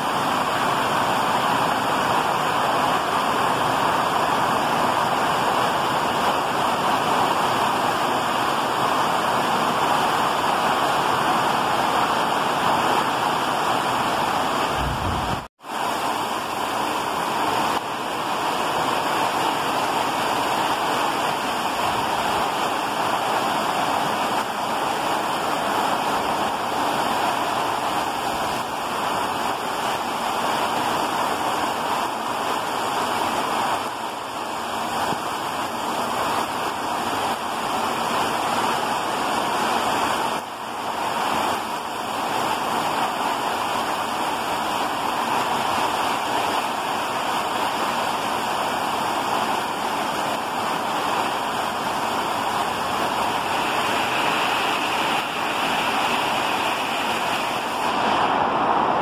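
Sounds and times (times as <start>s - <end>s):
heavy rain on leaves and roofs: 0.0s - 59.0s.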